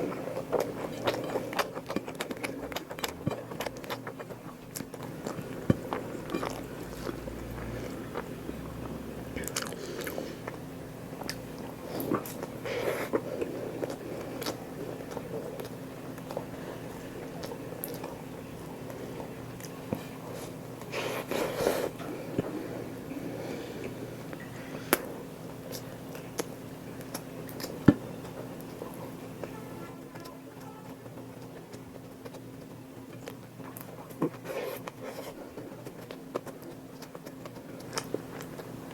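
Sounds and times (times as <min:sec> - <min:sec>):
chewing and crunching: 0:00.0 - 0:38.9
faint steady hum: 0:00.0 - 0:38.9.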